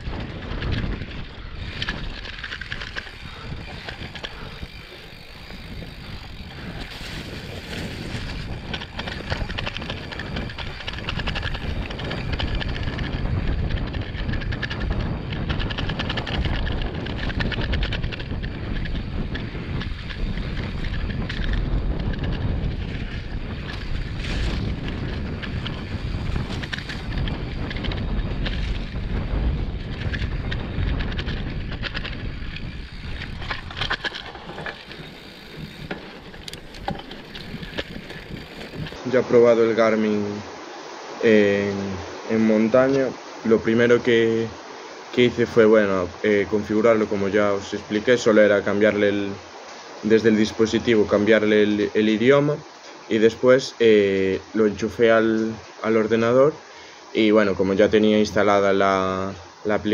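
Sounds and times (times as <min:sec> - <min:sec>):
bike tyres rattling over rough ground: 0:00.0 - 0:59.9
wind buffeting microphone: 0:00.0 - 0:59.9.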